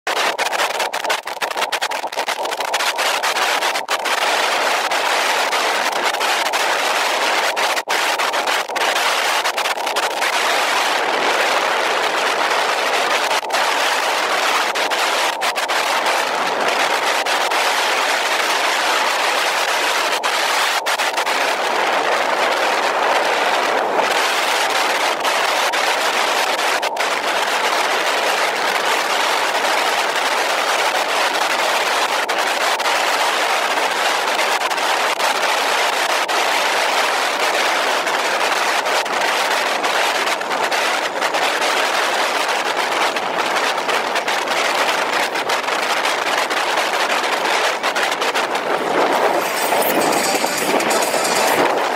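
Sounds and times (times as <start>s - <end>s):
wind and tyre noise: 0.1s - 51.9s.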